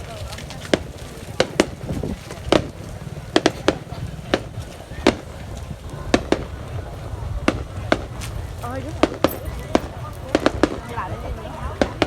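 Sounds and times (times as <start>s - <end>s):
faint voices: 0.0s - 12.0s
fireworks bangs: 0.0s - 12.0s
low background rumble: 0.0s - 12.0s.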